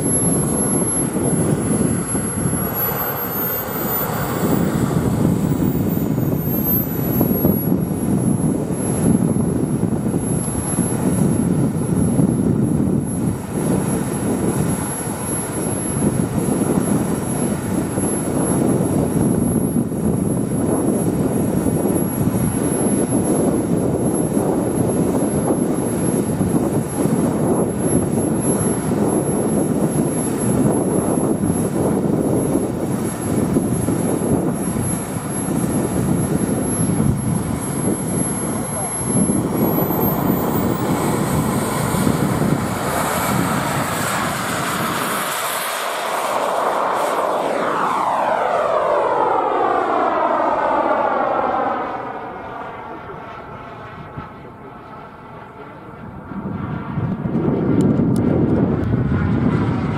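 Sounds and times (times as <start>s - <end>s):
small jet turbine engine whine: 0.0s - 59.9s.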